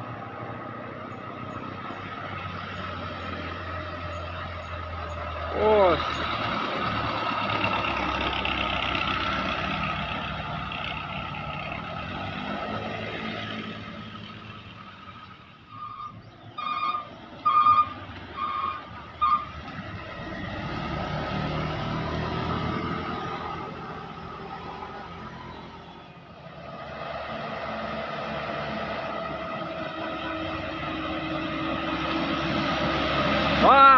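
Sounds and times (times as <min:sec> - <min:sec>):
heavy truck traffic passing: 0:00.0 - 0:33.9
vehicle approaching: 0:00.0 - 0:33.9.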